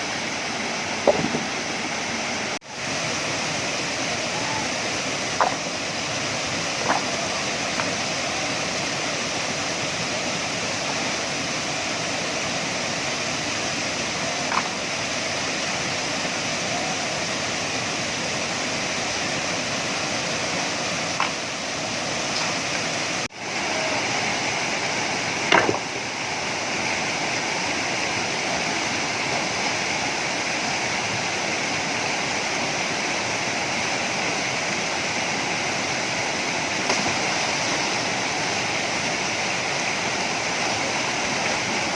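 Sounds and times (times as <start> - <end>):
waterfall and stream rushing: 0.0 - 41.9.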